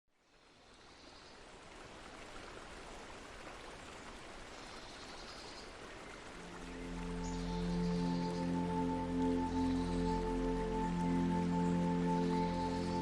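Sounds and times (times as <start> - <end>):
stream flowing and babbling: 0.1 - 13.0.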